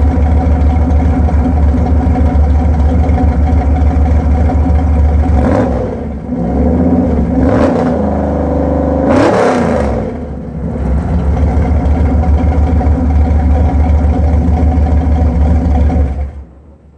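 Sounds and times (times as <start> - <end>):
vee eight engine idling and revving: 0.0 - 16.9.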